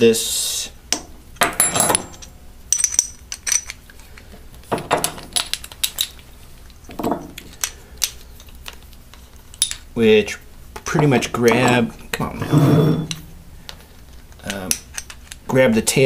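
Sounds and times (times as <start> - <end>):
steel parts clinking: 0.9 - 9.9, 10.8 - 15.5.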